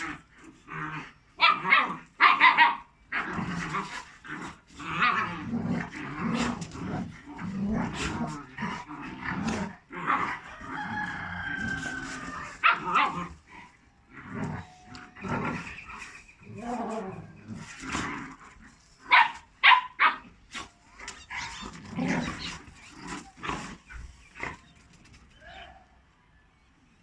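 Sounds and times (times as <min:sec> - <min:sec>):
dogs growling and barking: 0:00.0 - 0:25.8.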